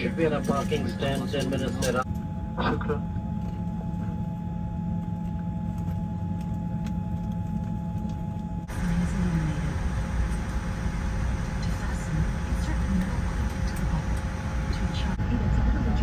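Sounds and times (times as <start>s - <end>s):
airplane cabin rumble: 0.0s - 16.0s
steady hum tones: 0.0s - 16.0s.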